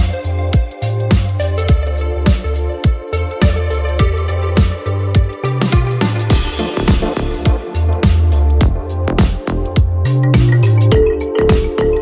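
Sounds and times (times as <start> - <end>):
bass line: 0.0 - 12.0
kick drum beat: 0.0 - 12.0
synth chords: 0.0 - 12.0.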